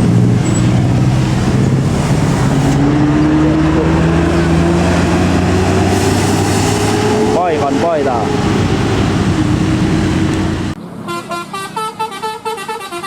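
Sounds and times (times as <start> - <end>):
bus diesel engine under load: 0.0 - 13.0.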